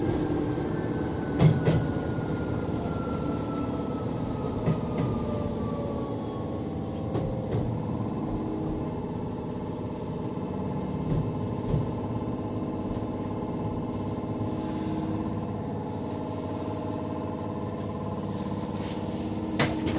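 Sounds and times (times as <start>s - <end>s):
train equipment humming: 0.0s - 19.9s.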